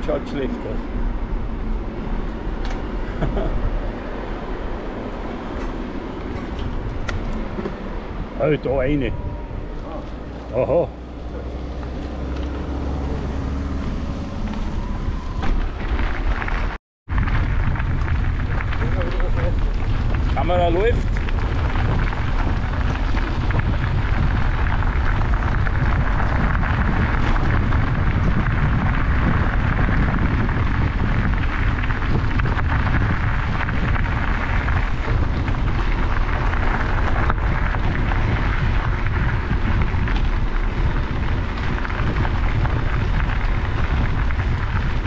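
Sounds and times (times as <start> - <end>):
tyres rolling over gravel: 0.0 - 45.0
wind buffeting microphone: 0.0 - 45.0.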